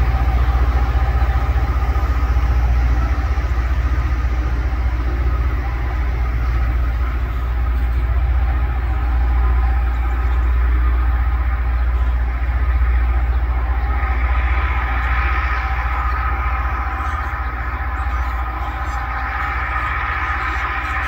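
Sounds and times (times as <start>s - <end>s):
grinding whine: 0.0s - 21.0s
rail grinder rumble: 0.0s - 21.0s.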